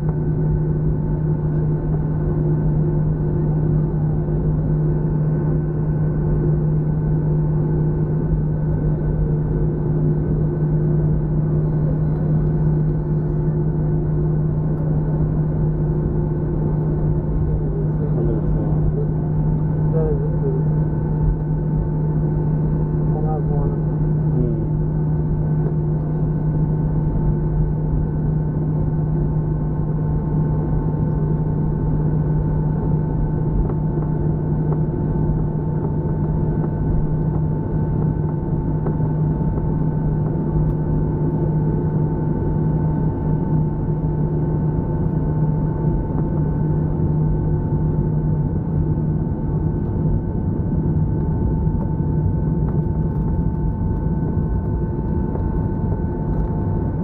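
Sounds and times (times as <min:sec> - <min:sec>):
engine whine: 0:00.0 - 0:57.0
jet engines droning in cabin: 0:00.0 - 0:57.0.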